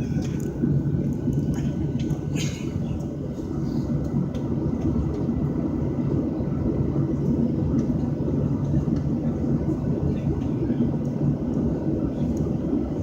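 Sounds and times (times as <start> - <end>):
airliner cabin rumble: 0.0 - 13.0
faint constant hum: 0.0 - 13.0.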